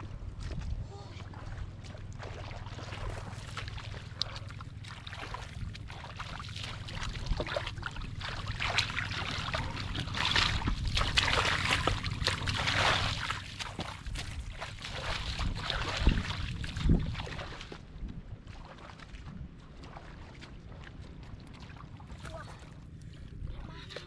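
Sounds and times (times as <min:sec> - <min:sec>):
low rumble: 0:00.0 - 0:24.0
splashing in muddy water: 0:00.0 - 0:24.0.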